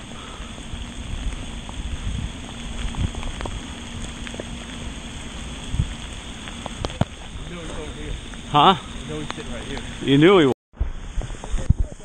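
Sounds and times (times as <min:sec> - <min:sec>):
drops ticking: 0:00.0 - 0:10.2
rain falling on water and grass: 0:00.0 - 0:10.2
low rumble on microphone: 0:00.0 - 0:12.0.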